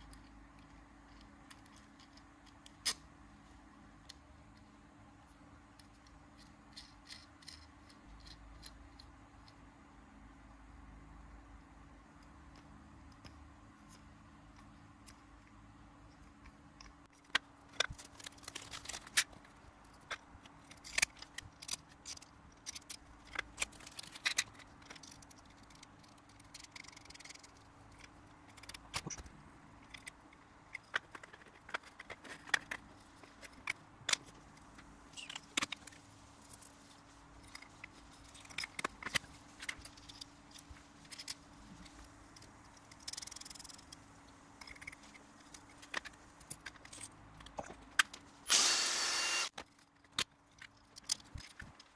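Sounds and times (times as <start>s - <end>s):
small parts clicking and clinking: 0.0s - 9.7s, 12.2s - 51.9s
faint steady hum: 0.0s - 51.9s.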